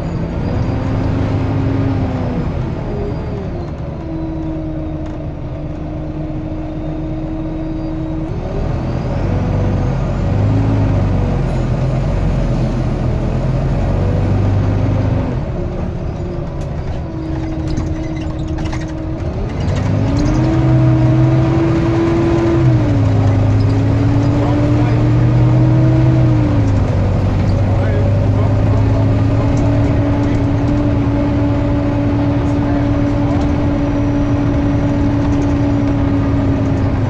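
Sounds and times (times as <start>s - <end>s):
bus diesel engine from inside: 0.0s - 37.0s.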